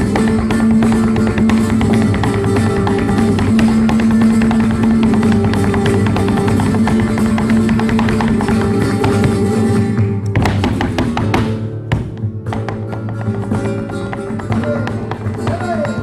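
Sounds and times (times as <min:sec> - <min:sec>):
flamenco guitar playing: 0:00.0 - 0:16.0
heeled shoes tapping on wooden floor: 0:00.0 - 0:16.0.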